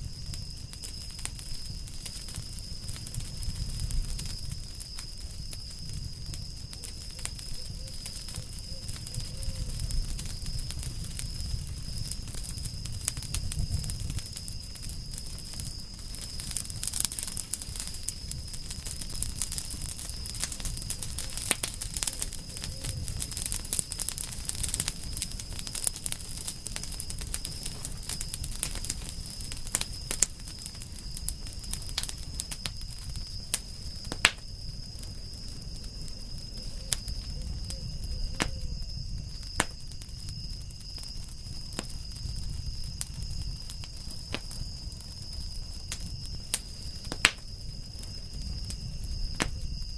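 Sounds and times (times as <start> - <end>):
campfire crackling and popping: 0.0 - 49.9
low fire rumble: 0.0 - 49.9.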